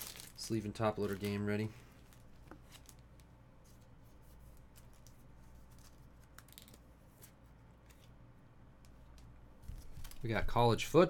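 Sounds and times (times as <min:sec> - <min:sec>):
card sleeve plastic rustles: 0:00.0 - 0:08.2, 0:09.2 - 0:10.6
low steady hum: 0:00.0 - 0:11.0.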